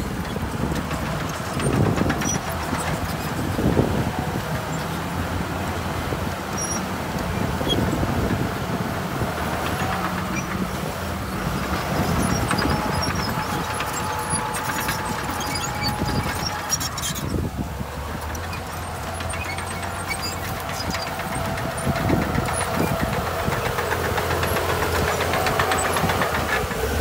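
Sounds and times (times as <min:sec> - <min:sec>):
knocks and rattles: 0:00.0 - 0:08.6, 0:09.3 - 0:27.0
diesel machinery engine hum: 0:00.0 - 0:27.0.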